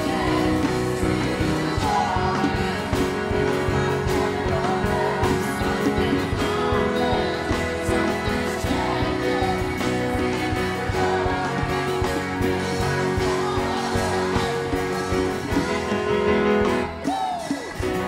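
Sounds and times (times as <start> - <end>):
group of people singing: 0.0 - 16.3
worship band playing: 0.0 - 18.0.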